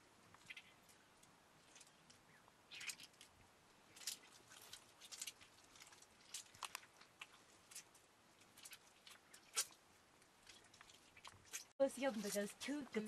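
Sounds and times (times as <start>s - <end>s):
butter squelching in hands: 1.6s - 12.5s.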